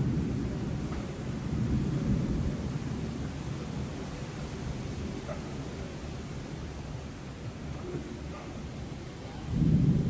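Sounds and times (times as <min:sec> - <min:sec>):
rain hissing: 0:00.0 - 0:10.0
wind: 0:00.0 - 0:10.0.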